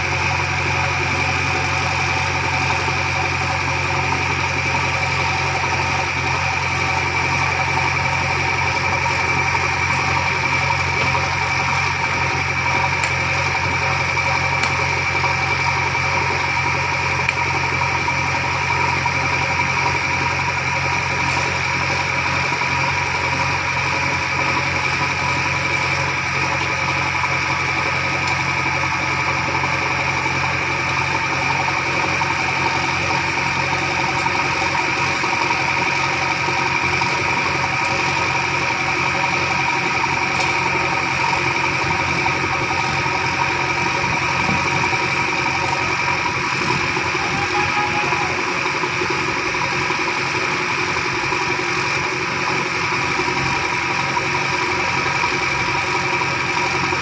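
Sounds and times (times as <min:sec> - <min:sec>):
backhoe diesel engine running: 0:00.0 - 0:57.0
high whine: 0:00.0 - 0:57.0.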